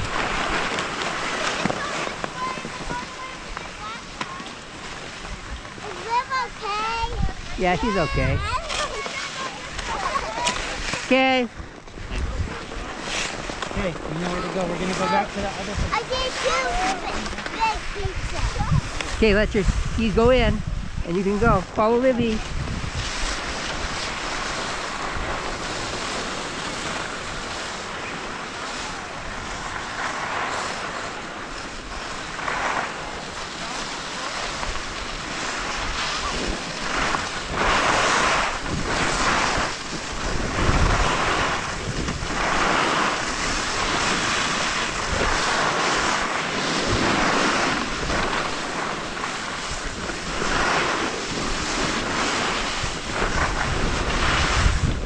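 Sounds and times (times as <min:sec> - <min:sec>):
skis scraping over snow: 0:00.0 - 0:55.0
wind on microphone: 0:00.0 - 0:55.0.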